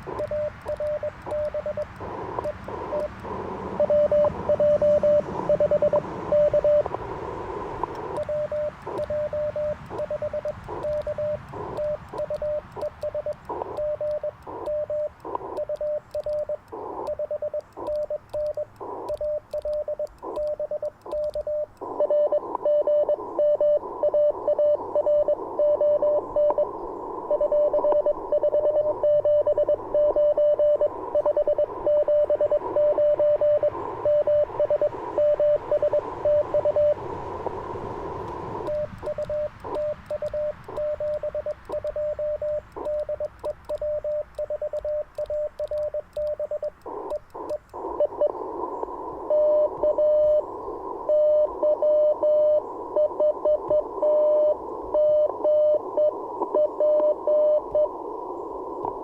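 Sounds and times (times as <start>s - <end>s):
morse code tone: 0.0s - 7.0s, 7.8s - 26.7s, 27.3s - 37.0s, 38.2s - 48.4s, 49.3s - 50.4s, 51.1s - 57.9s
receiver hiss: 0.0s - 59.0s.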